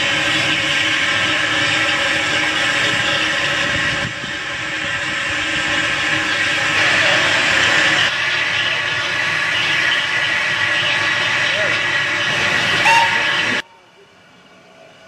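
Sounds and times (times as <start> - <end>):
steam locomotive hissing steam: 0.0 - 15.0.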